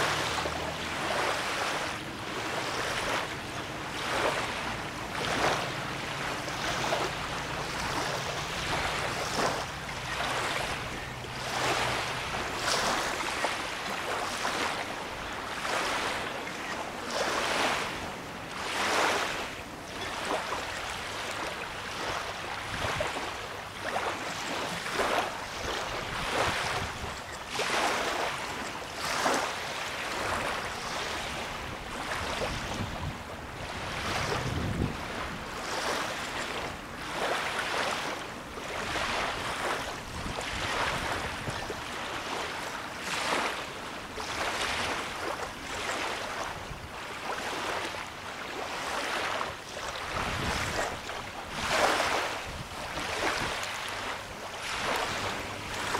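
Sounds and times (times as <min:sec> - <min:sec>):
lake waves lapping: 0:00.0 - 0:55.9.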